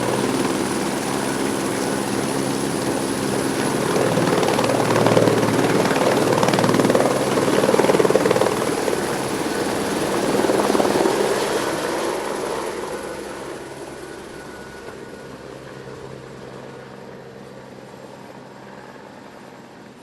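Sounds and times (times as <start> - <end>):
helicopter rotor beat: 0.0 - 20.0.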